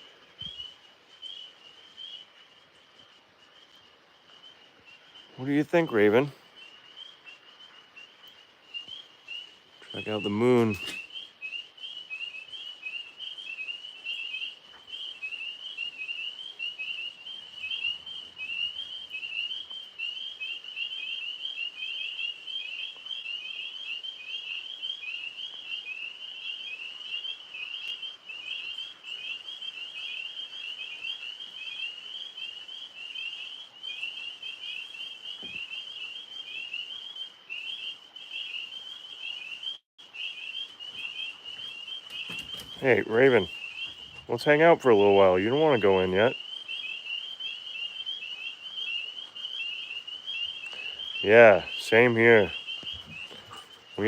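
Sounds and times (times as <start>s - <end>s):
tree frogs chorus trilling: 0.0s - 54.0s.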